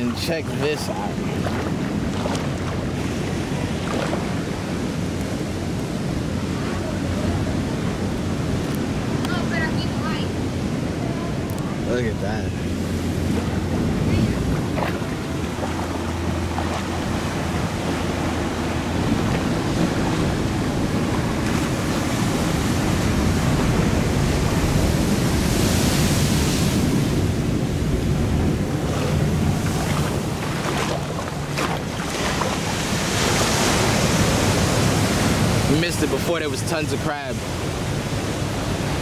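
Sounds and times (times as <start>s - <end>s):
wind buffeting microphone: 0.0s - 36.4s
ocean surf washing in: 0.0s - 39.0s.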